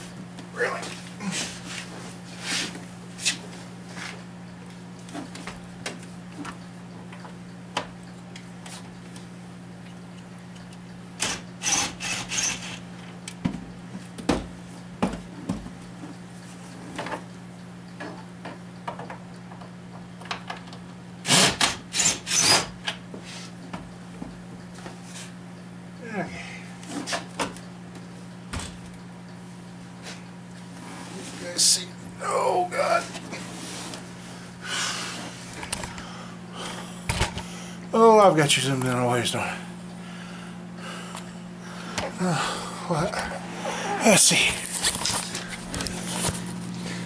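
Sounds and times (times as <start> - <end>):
steady low hum: 0.0 - 21.4, 22.2 - 47.0.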